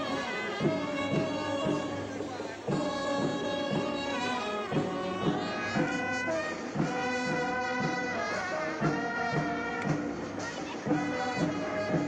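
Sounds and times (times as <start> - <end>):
bass drum beat: 0.0 - 12.0
brass marching band playing: 0.0 - 12.0.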